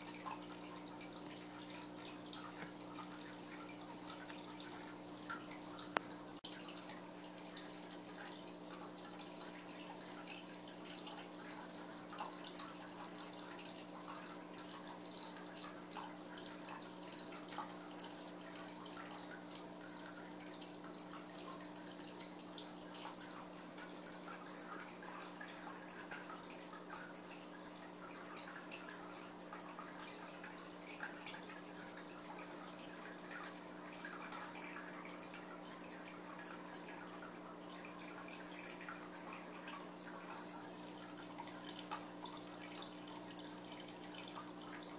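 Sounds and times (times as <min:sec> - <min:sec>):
water dripping and trickling: 0:00.0 - 0:44.9.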